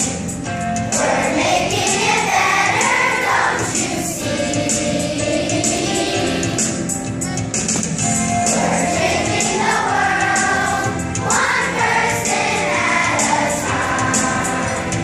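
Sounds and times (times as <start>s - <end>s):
group of voices singing in chorus: 0.9s - 6.7s, 8.4s - 15.0s.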